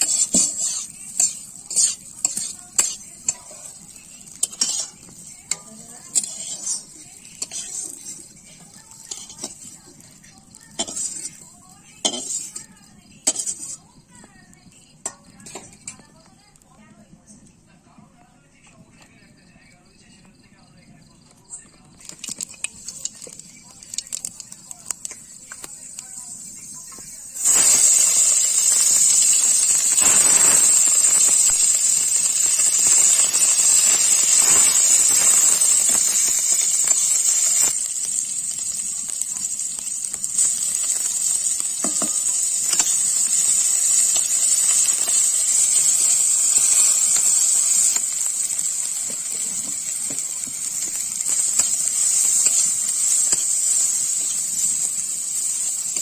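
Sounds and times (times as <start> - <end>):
onions sizzling in hot oil: 0.0 - 16.6, 21.1 - 56.0.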